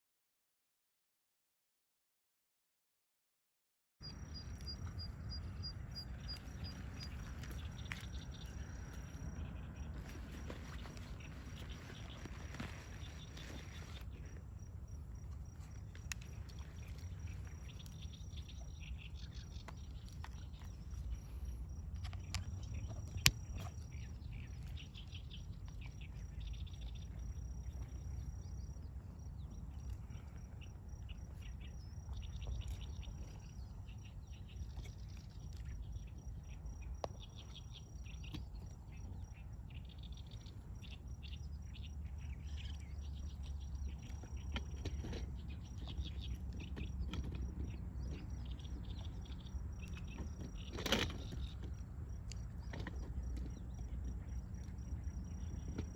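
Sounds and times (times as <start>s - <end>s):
small birds twittering: 4.0s - 55.9s.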